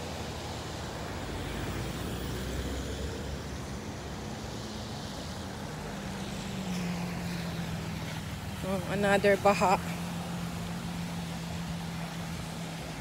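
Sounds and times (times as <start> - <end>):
nearer vehicle engine hum: 0.0 - 13.0
traffic on wet street: 0.0 - 13.0.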